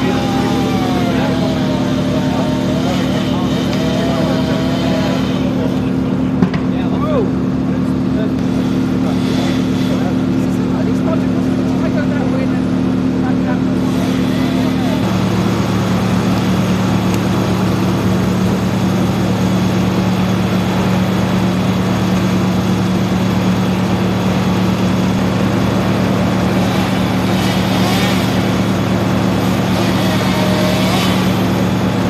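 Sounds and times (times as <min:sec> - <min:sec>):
engine idling with pulse: 0:00.0 - 0:32.0.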